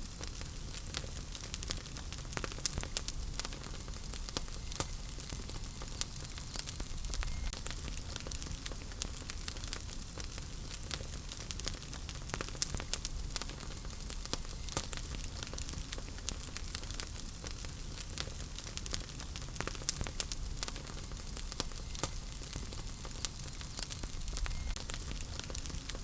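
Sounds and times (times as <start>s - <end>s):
fire crackling and popping: 0.0s - 26.0s
hiss and rumble of flames: 0.0s - 26.0s.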